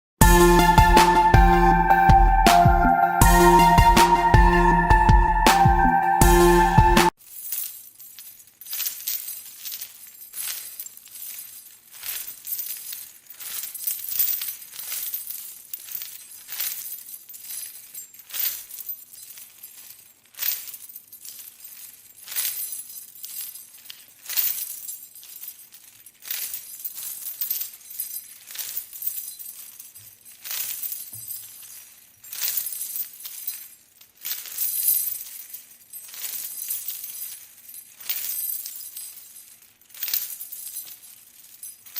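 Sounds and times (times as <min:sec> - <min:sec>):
metal chains jangling: 0:07.2 - 0:41.9.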